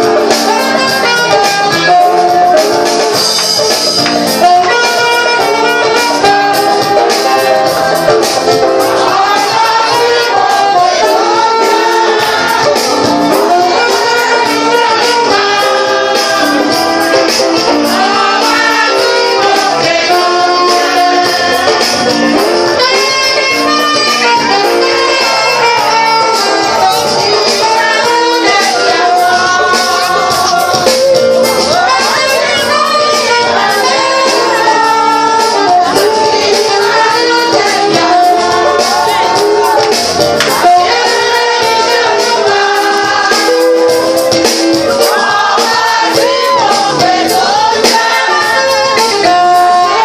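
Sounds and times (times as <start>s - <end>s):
backing music: 0.0s - 50.0s
people singing: 0.0s - 50.0s
saxophone melody: 0.0s - 50.0s.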